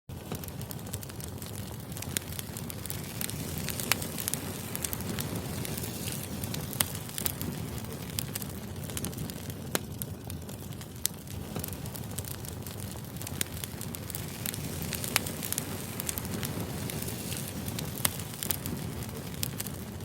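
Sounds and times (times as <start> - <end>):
low rush of flames: 0.1 - 20.0
wood crackling and popping: 0.1 - 20.0.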